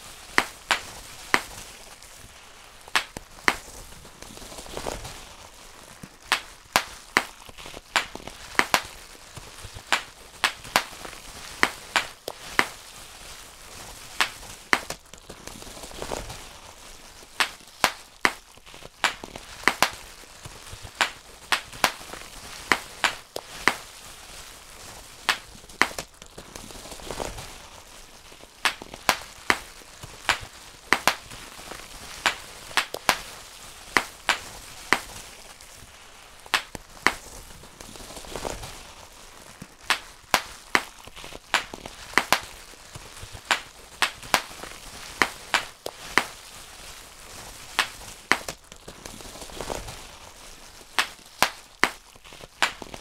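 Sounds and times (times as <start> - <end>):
bubble wrap popping: 0.0 - 53.0
plastic sheet crinkling: 0.0 - 53.0.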